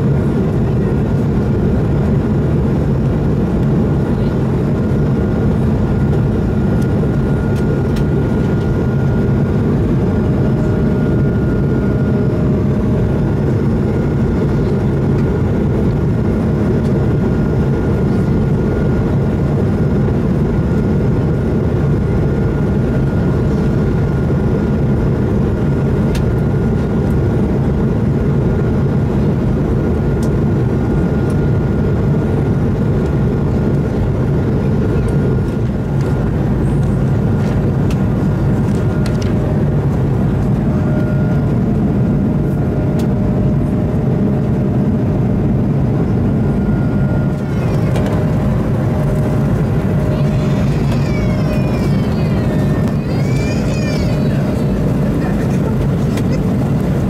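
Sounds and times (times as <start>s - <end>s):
aircraft engines rumbling: 0.0s - 57.0s.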